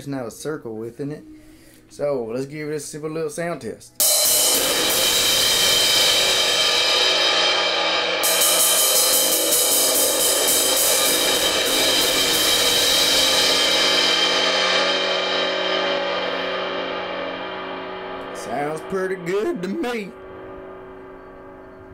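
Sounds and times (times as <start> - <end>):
crash cymbal struck with drumstick: 4.0 - 21.7.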